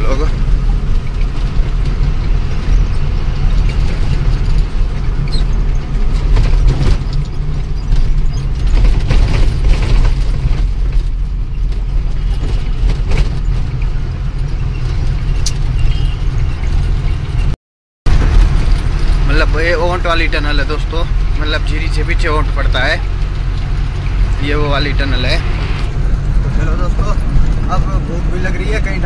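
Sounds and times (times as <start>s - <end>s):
rattles and clicks: 0.0s - 28.9s
road noise: 0.0s - 29.0s
truck engine drone: 0.0s - 29.0s.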